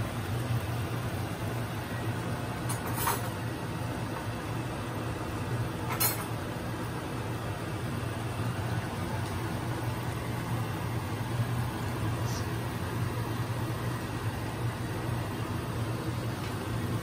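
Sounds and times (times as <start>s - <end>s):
broth bubbling in pan: 3.4s - 17.0s.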